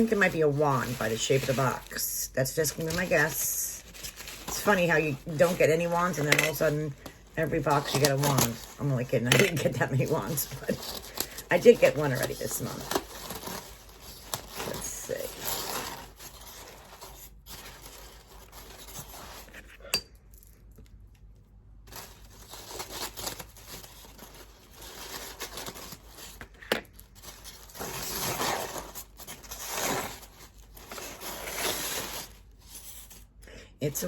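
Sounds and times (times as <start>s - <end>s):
cardboard packaging rustling and tearing: 0.0s - 19.8s, 21.7s - 33.4s.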